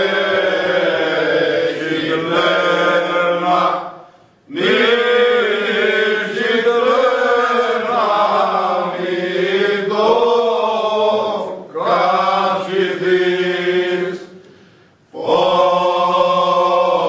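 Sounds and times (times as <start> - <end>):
men singing together unaccompanied: 0.0 - 14.4, 15.1 - 17.0.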